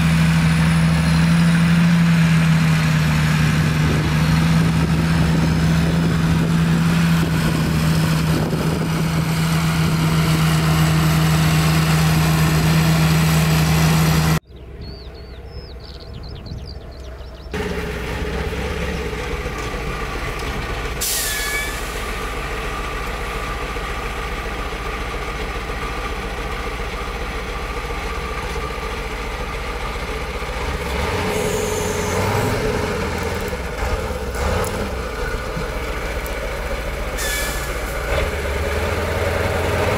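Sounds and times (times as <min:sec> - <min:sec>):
diesel engines idling: 0:00.0 - 0:39.9
tractor engine droning under load: 0:00.0 - 0:39.9.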